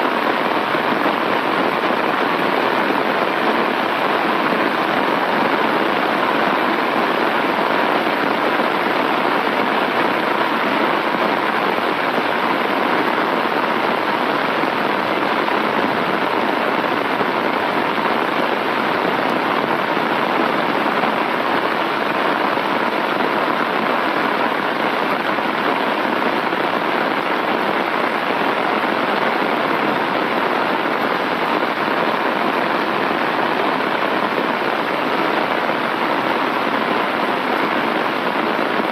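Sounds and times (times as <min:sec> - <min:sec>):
heavy rain on an umbrella: 0:00.0 - 0:38.9.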